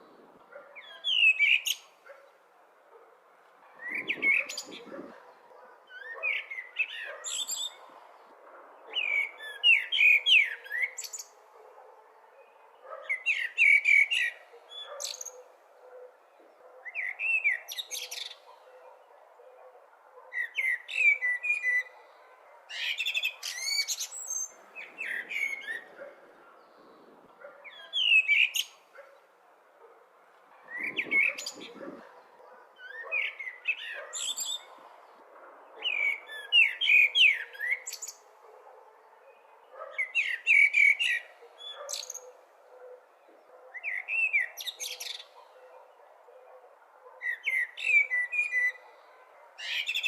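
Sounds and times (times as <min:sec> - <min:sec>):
blackbird singing: 0:00.6 - 0:02.4, 0:03.8 - 0:08.0, 0:08.7 - 0:29.3, 0:30.6 - 0:34.9, 0:35.7 - 0:38.2, 0:39.2 - 0:46.5, 0:47.1 - 0:50.0.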